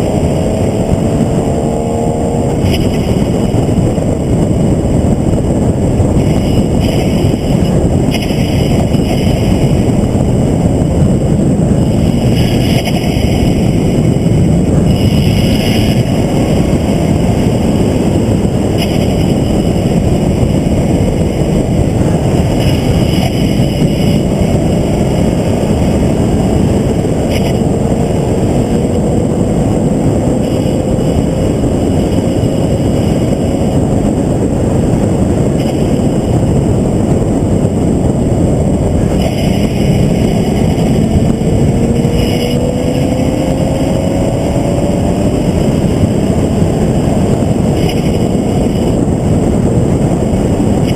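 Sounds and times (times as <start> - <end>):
vehicle engine revving: 0.0 - 50.9
wind and road noise: 0.0 - 50.9.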